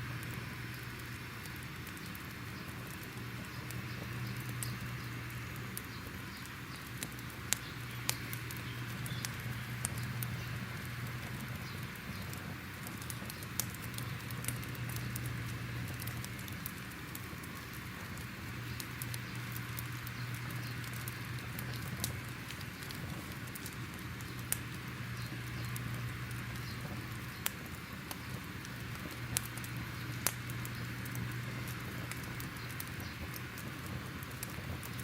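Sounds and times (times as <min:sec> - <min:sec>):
fire crackling and popping: 0:00.0 - 0:35.0
low steady hum: 0:00.0 - 0:35.0.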